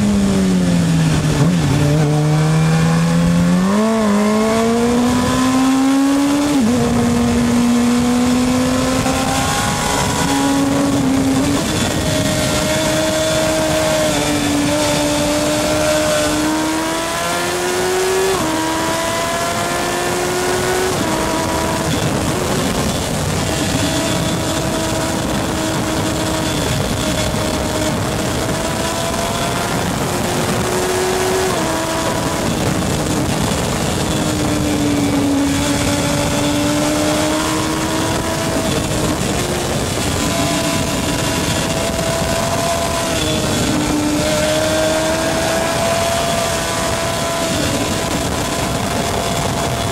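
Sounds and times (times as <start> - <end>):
racing motorcycle engines: 0.0 - 49.9.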